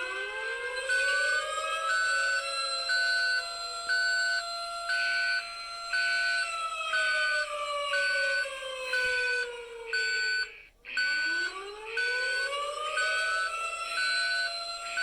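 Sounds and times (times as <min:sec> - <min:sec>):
gliding siren-like tone: 0:00.0 - 0:10.5, 0:11.1 - 0:15.0.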